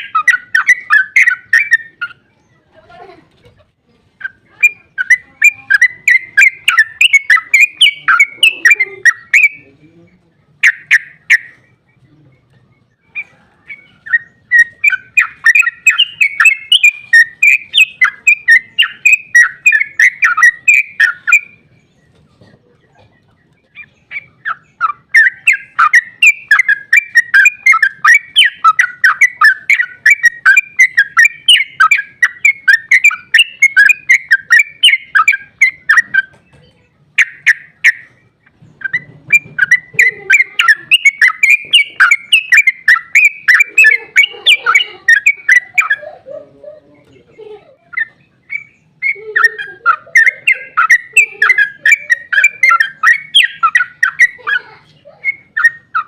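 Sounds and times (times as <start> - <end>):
bird singing bubbling notes: 0.0 - 2.5, 4.2 - 22.1, 23.2 - 36.3, 37.1 - 46.2, 47.9 - 54.4.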